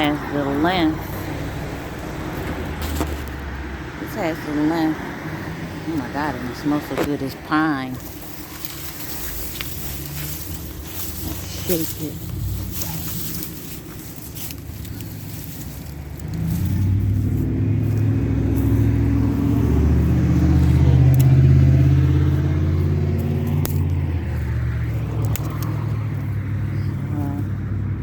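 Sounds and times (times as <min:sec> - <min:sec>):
vehicle engine passing: 0:00.0 - 0:28.0.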